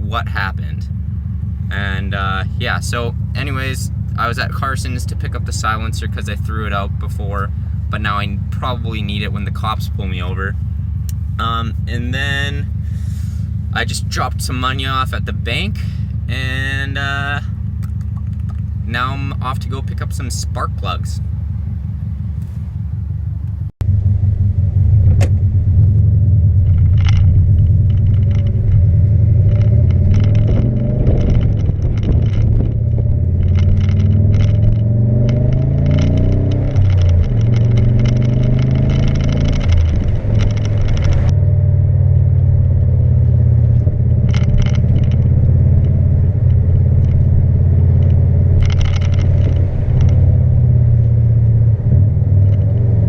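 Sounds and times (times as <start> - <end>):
car engine loud exhaust drone: 0.0 - 53.0.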